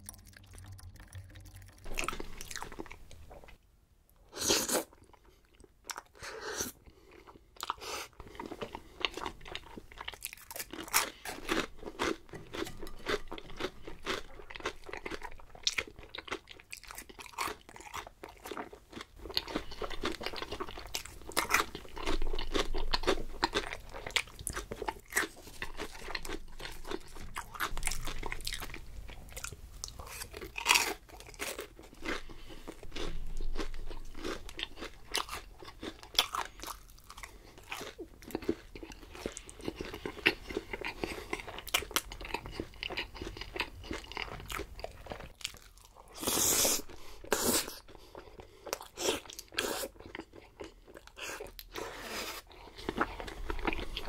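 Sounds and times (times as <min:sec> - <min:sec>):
chewing crunchy food: 0:00.0 - 0:03.6, 0:04.4 - 0:54.0.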